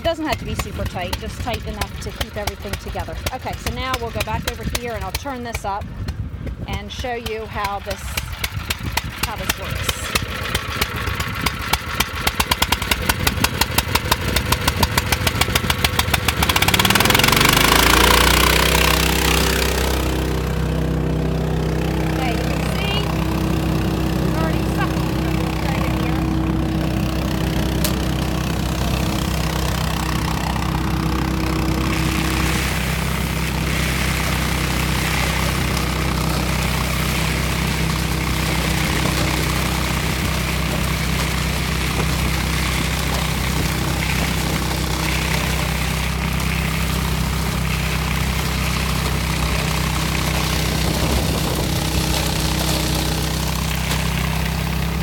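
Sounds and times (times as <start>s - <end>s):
gas engine running: 0.0s - 55.0s.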